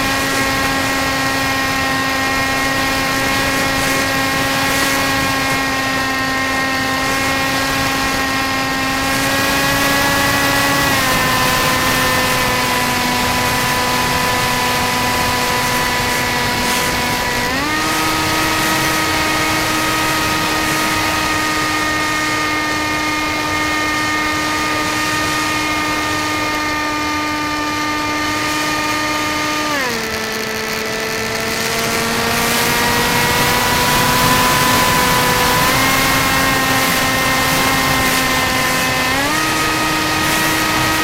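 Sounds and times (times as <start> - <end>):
electric motor and propeller whine: 0.0 - 41.0.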